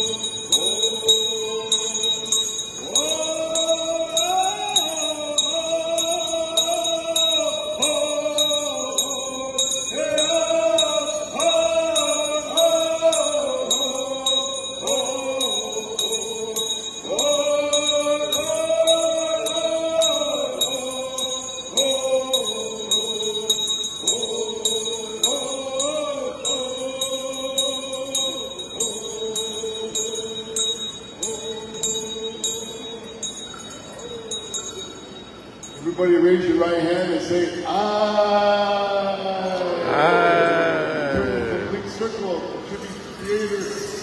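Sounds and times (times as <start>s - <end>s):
men singing in unison: 0.0s - 33.4s, 37.3s - 41.8s
bell ringing steady beat: 0.0s - 37.2s, 39.5s - 41.6s.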